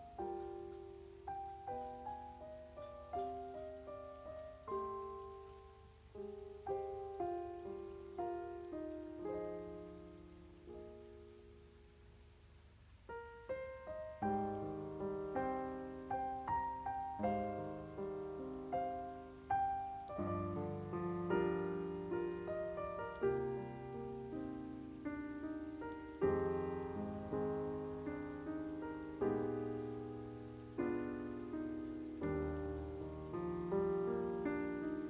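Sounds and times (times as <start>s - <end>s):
gentle solo piano: 0.0s - 35.0s.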